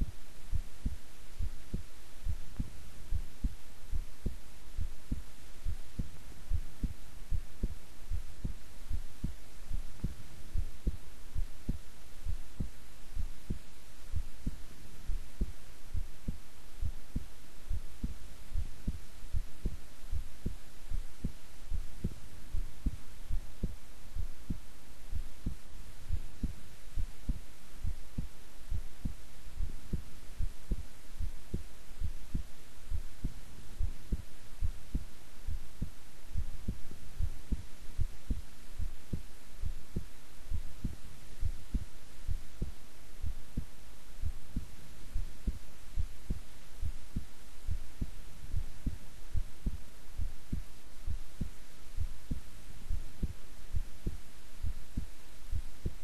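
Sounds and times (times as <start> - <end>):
heart beating: 0.0 - 56.0.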